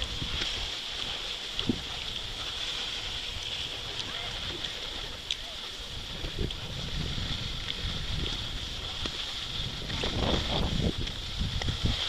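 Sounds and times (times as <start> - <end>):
skis hissing on snow: 0.0 - 12.0
wind rumbling on microphone: 0.0 - 12.0.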